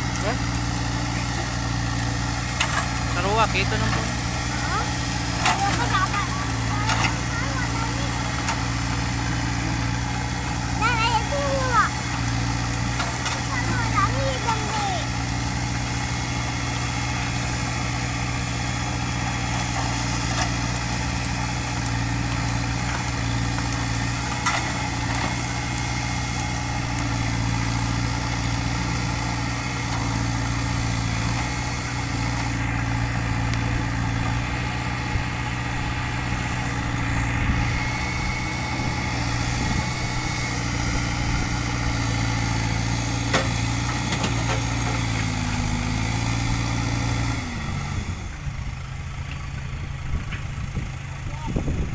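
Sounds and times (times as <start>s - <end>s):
diesel engine running at low revs: 0.0s - 51.9s.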